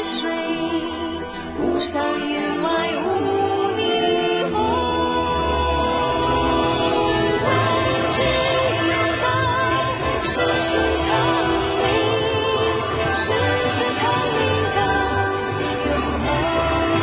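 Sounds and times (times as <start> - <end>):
choir singing with accompaniment: 0.0 - 17.0.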